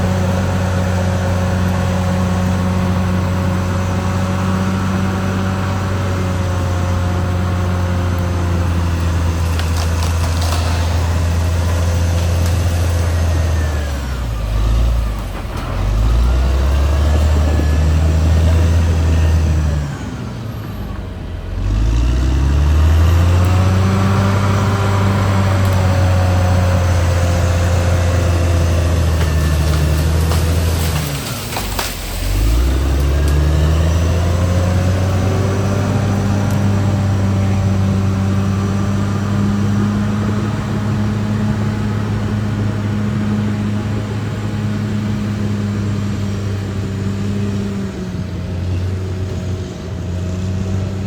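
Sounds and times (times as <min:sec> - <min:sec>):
bulldozer diesel engine running hard: 0:00.0 - 0:51.0.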